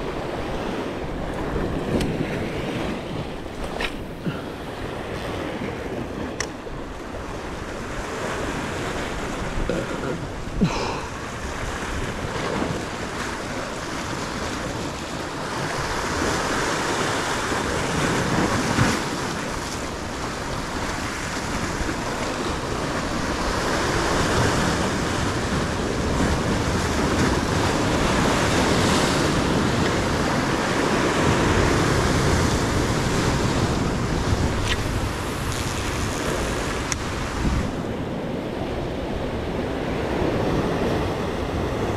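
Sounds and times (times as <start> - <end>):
surf washing against rocks: 0.0 - 41.9
wind buffeting the microphone: 0.0 - 41.9.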